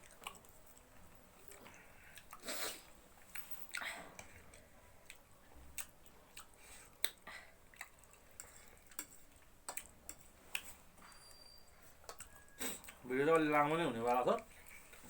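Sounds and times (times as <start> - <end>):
chewing clicks and smacks: 0.0 - 2.4, 3.2 - 11.3, 11.9 - 15.0.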